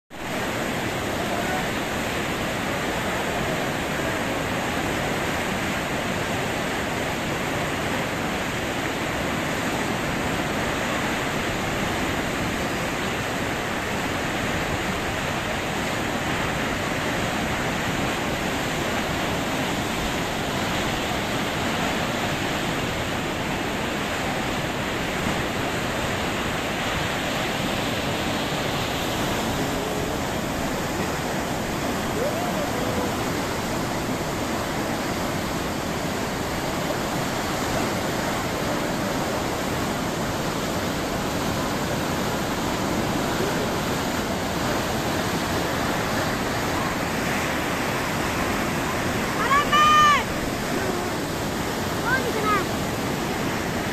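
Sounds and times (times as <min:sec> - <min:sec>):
torrent water roaring: 0:00.1 - 0:53.9.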